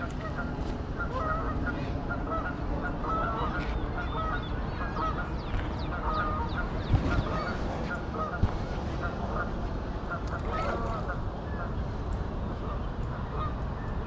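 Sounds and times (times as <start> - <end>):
birds honking and chirping: 0.0 - 14.0.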